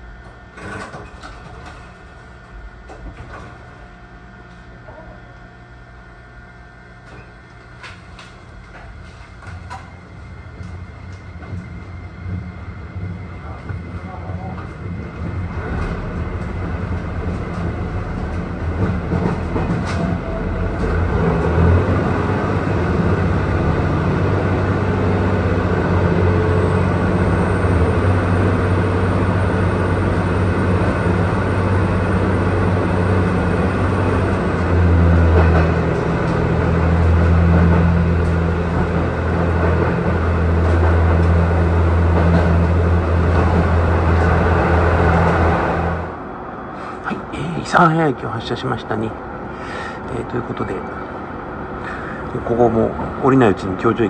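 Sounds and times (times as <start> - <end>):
railcar engine drone: 0.0 - 54.0
rail noise: 6.6 - 54.0.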